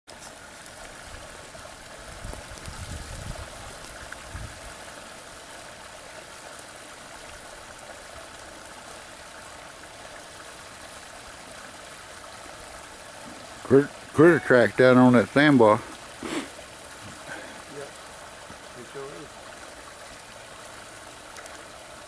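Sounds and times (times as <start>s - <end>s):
creek water running: 0.1s - 22.0s.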